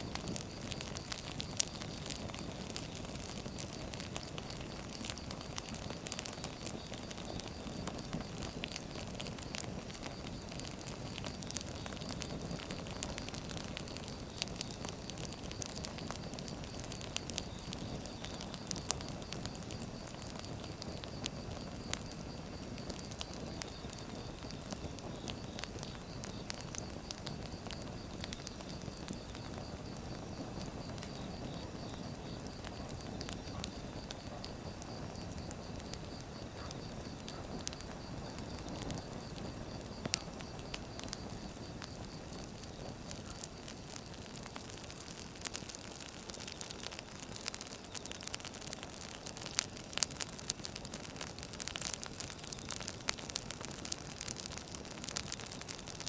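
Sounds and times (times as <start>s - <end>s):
firewood crackling and popping: 0.0s - 56.0s
low rush of fire: 0.0s - 56.0s.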